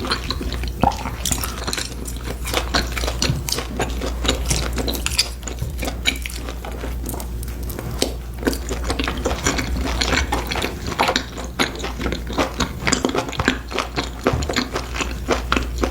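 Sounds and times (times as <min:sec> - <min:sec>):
person chewing crisp food: 0:00.0 - 0:15.9
steady low hum: 0:00.0 - 0:15.9.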